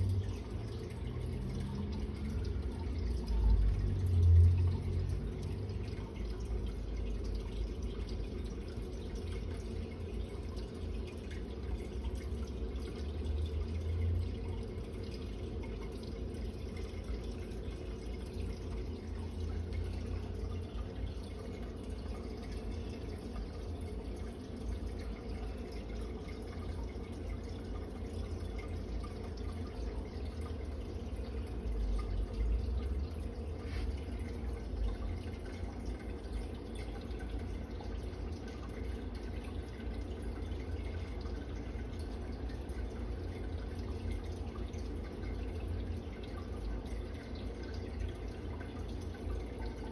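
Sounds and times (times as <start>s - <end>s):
water trickling from aquarium filter: 0.0s - 49.9s.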